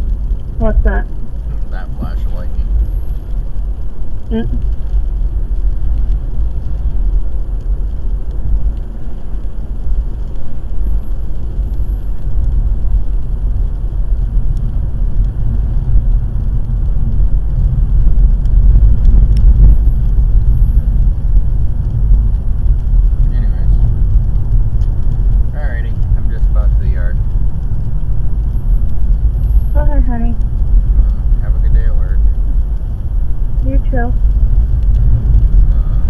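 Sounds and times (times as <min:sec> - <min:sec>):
car driving on wet road: 0:00.0 - 0:36.0.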